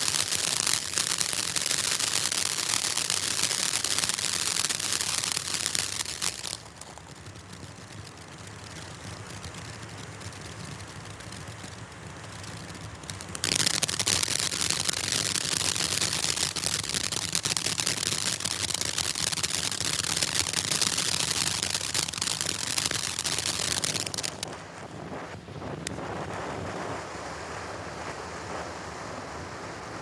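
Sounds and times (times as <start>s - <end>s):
firework fountain hissing: 0.0s - 24.6s
rapid crackling pops: 0.0s - 24.7s.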